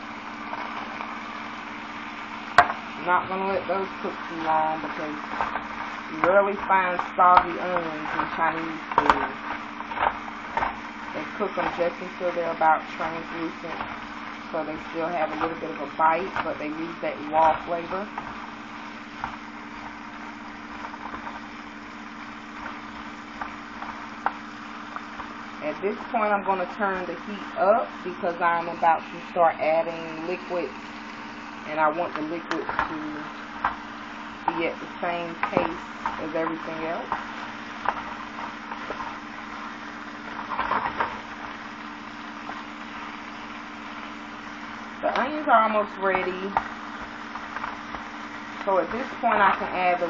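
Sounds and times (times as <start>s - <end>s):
faint crackles: 0.0s - 50.0s
food sizzling in a frying pan: 0.0s - 50.0s
steady low hum: 0.0s - 50.0s.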